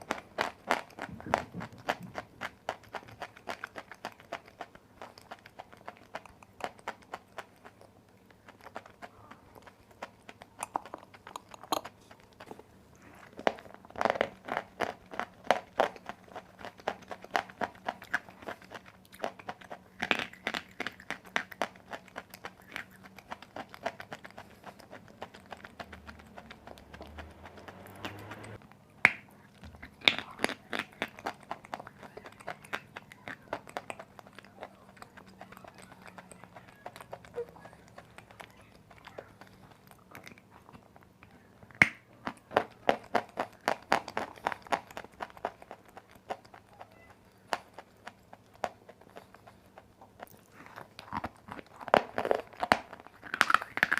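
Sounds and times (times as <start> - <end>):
clay being chewed crunching: 0.0 - 53.9.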